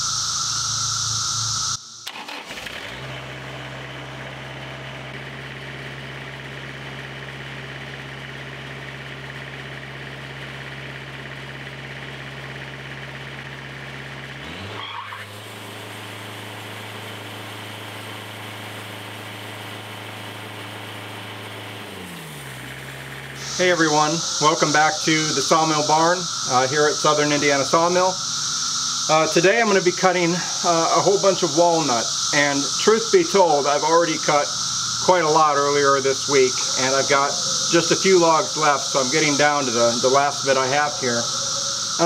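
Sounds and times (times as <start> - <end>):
loud steady hiss: 0.0 - 42.0
sawmill engine running: 0.0 - 42.0.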